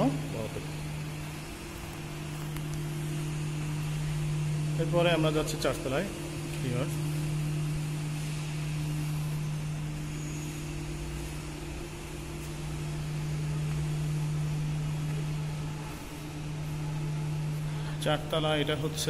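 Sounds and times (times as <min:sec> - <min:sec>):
constant hiss: 0:00.0 - 0:19.0
low mechanical hum: 0:00.0 - 0:19.0.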